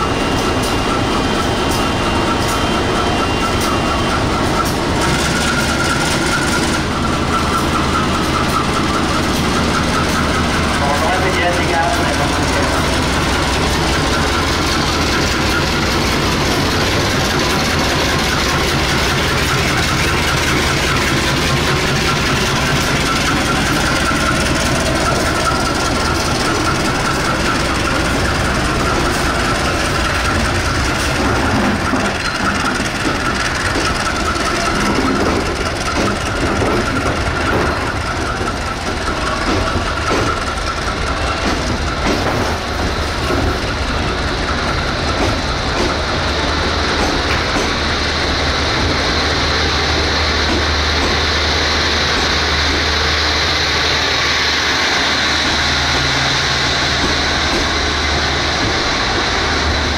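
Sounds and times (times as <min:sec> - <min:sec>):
diesel locomotive engine drone: 0:00.0 - 0:59.9
steady high squeal: 0:00.0 - 0:59.9
wheels clattering over rail joints: 0:03.4 - 0:53.2.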